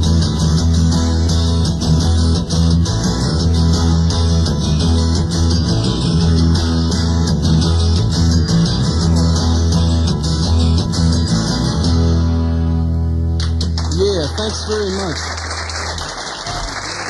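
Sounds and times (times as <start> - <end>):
strummed electric guitars: 0.0 - 15.2
bass guitar: 0.0 - 17.0.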